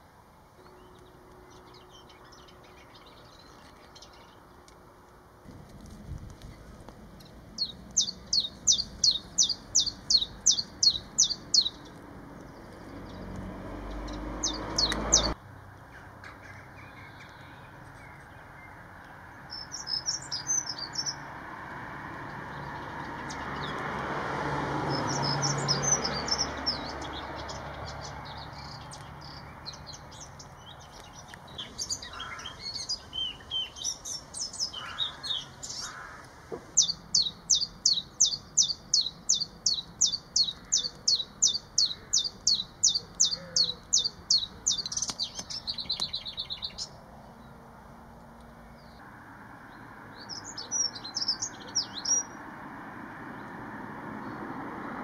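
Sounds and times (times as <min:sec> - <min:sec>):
small songbirds singing: 0:00.6 - 0:04.9, 0:06.2 - 0:21.4, 0:22.1 - 0:24.2, 0:24.8 - 0:47.6, 0:49.7 - 0:52.5, 0:53.2 - 0:55.0.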